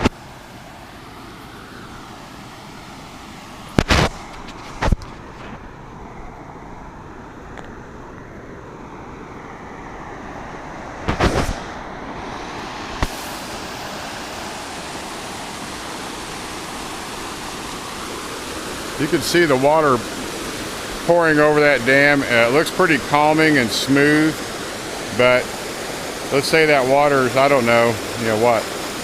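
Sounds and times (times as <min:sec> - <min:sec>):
water rushing over dam: 0:00.0 - 0:07.2, 0:07.8 - 0:29.0.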